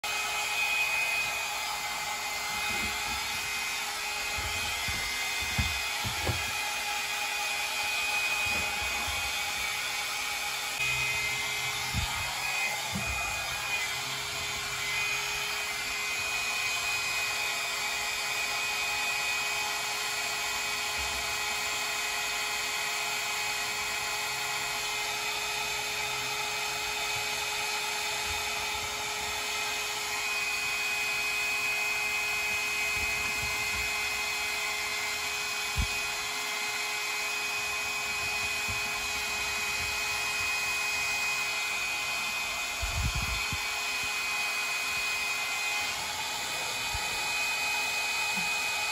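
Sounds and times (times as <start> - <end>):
hairdryer running: 0.0 - 48.9.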